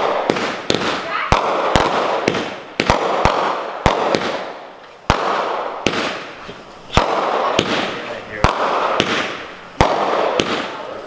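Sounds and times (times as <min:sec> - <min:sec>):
firework bangs: 0:00.0 - 0:11.0
firework crackling hiss: 0:00.0 - 0:11.0.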